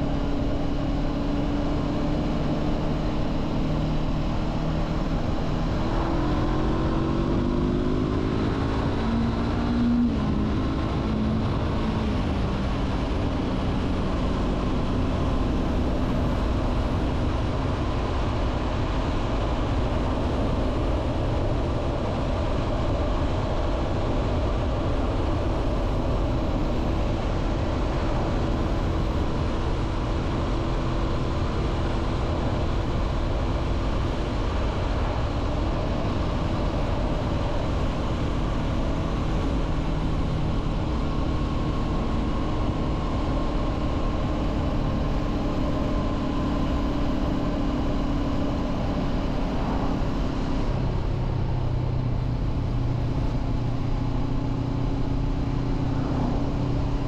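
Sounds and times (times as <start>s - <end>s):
wind rushing over microphone: 3.7s - 57.0s.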